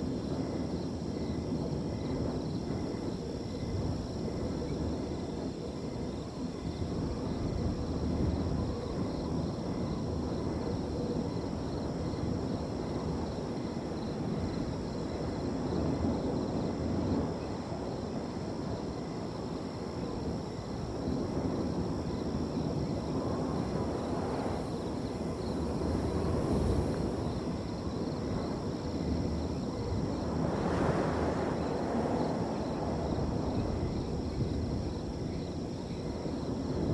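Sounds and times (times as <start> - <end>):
crickets trilling: 0.0 - 36.9
wind gusts: 0.0 - 36.9.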